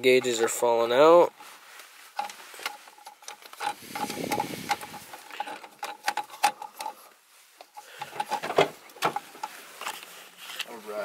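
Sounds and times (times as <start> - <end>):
low rubbing rustling: 0.5 - 11.0.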